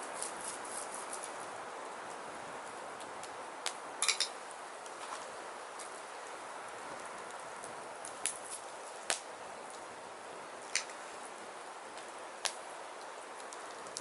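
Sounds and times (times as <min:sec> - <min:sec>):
fire hissing: 0:00.0 - 0:14.0
firewood crackling and popping: 0:00.0 - 0:14.0.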